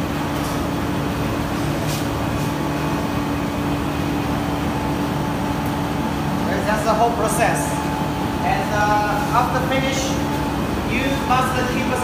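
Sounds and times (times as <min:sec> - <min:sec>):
furnace humming with low rumble: 0:00.0 - 0:12.0.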